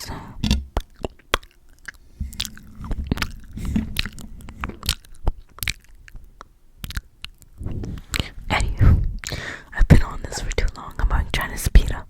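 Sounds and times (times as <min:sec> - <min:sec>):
wet lip smacks and clicks: 0:00.8 - 0:08.6, 0:09.2 - 0:11.1.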